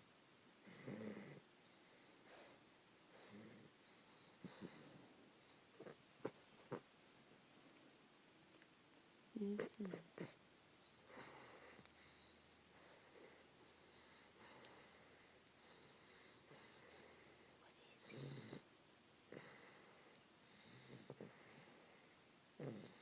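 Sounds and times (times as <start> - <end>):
puppy snoring: 0.6 - 6.9, 9.4 - 23.0
soft breaths: 0.6 - 23.0.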